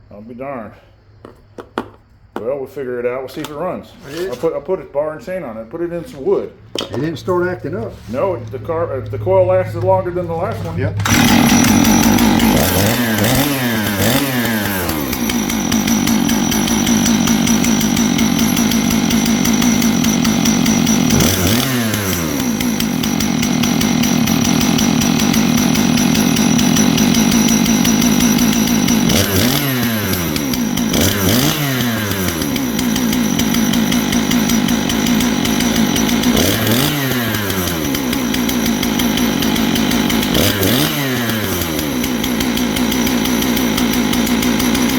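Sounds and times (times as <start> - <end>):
chainsaw engine running: 6.1 - 44.9.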